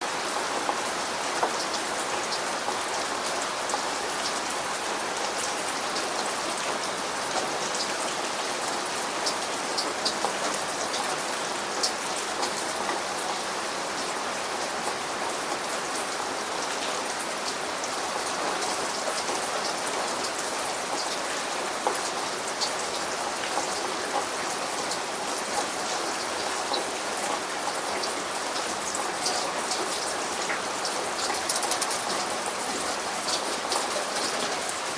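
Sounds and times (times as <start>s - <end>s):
raindrops ticking on a surface: 0.0s - 34.9s
steady rain falling: 0.0s - 34.9s.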